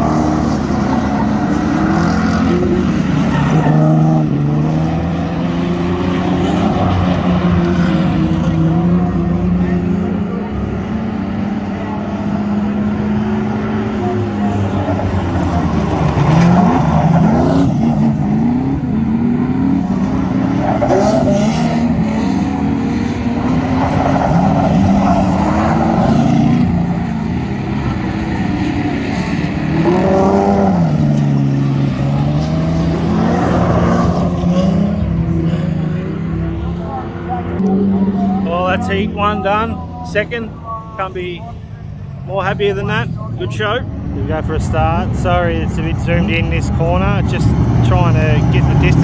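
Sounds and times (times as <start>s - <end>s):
race car engines: 0.0s - 49.0s.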